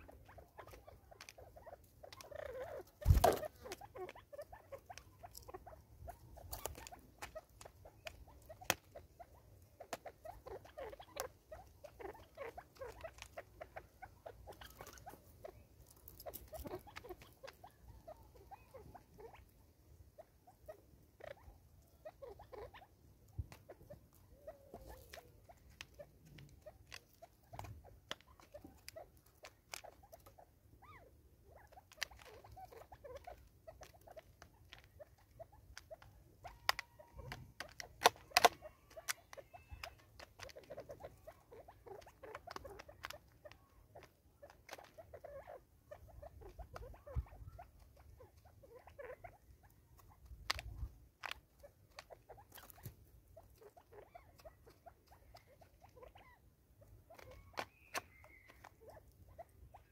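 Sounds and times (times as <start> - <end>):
beaks tapping on plastic and wood: 0.0 - 9.2, 9.8 - 19.0, 23.4 - 30.4, 31.6 - 59.2.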